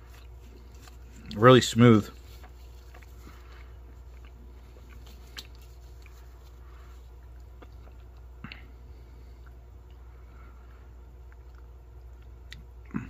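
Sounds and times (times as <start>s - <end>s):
faint chewing: 0.0s - 13.0s
steady low hum: 0.0s - 13.0s.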